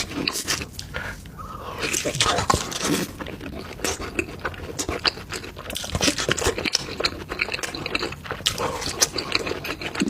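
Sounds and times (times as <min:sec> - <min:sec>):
wet chewing and smacking: 0:00.0 - 0:10.0.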